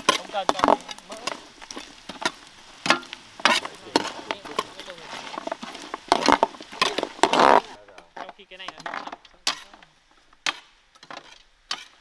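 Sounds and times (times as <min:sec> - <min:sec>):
faint sizzling: 0:00.0 - 0:10.2.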